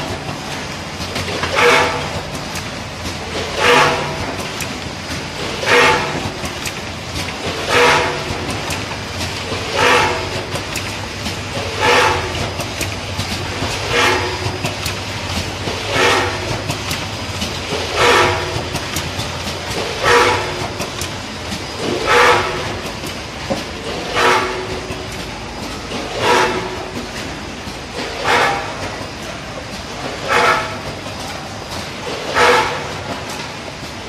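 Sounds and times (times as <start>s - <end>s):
machine mechanical hum: 0.0s - 34.0s.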